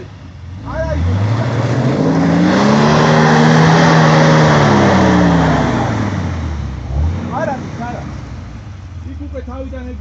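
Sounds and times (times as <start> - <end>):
engine revving hard: 0.0 - 8.6.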